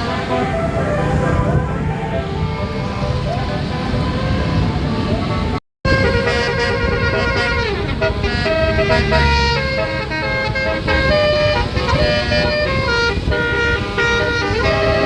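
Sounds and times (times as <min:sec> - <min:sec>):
low engine rumble: 0:00.0 - 0:15.0
musical air horn melody: 0:00.0 - 0:15.0.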